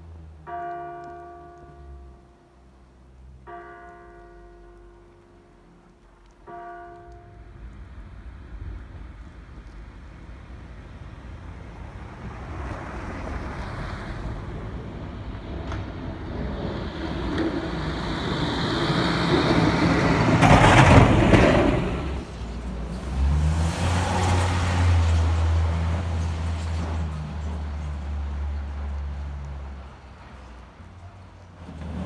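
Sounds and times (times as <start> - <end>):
road vehicle passing: 0.0 - 32.0.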